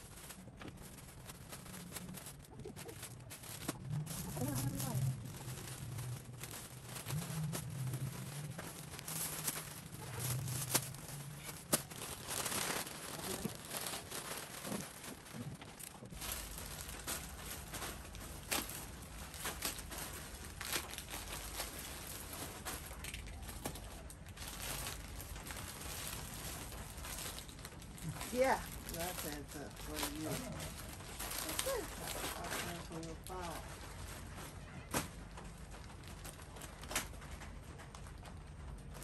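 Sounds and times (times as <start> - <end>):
plastic bags crinkling: 0.0 - 39.0.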